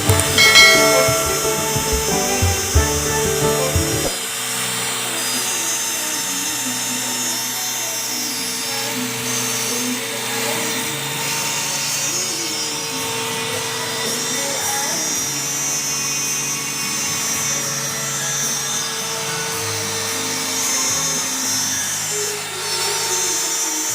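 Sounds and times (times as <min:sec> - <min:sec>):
music: 0:00.0 - 0:23.9.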